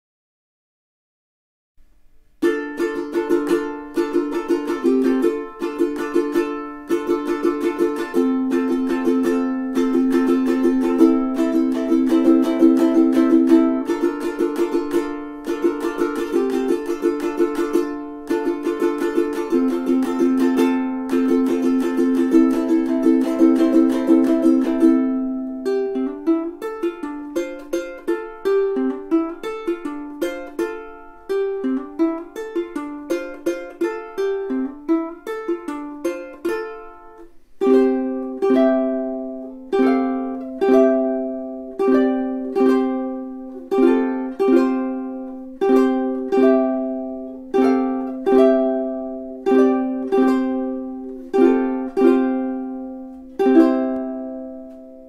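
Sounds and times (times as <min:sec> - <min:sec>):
ukulele picked notes: 0:01.8 - 0:55.0
ukulele strummed chords: 0:01.8 - 0:55.0.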